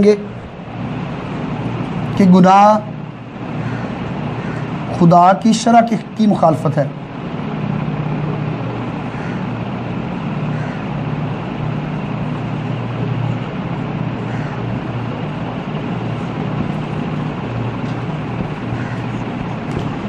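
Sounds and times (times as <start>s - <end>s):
constant rushing noise: 0.0s - 20.0s
low mechanical hum: 0.0s - 20.0s.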